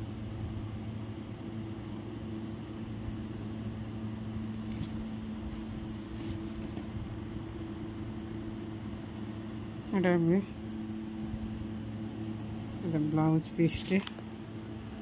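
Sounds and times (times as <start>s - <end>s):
appliance motor hum: 0.0s - 15.0s.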